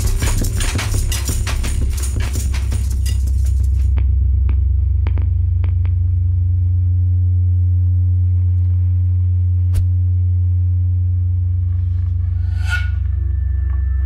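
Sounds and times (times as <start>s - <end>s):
low electronic drone: 0.0s - 14.0s.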